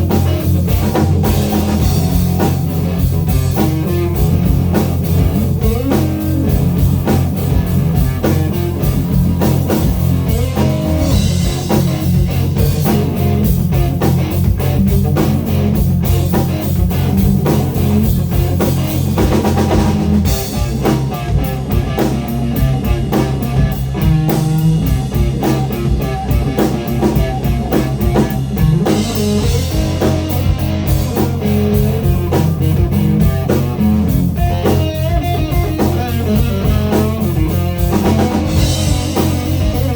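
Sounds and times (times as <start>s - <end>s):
blues rock band playing: 0.0s - 39.9s
electric guitar: 0.0s - 39.9s.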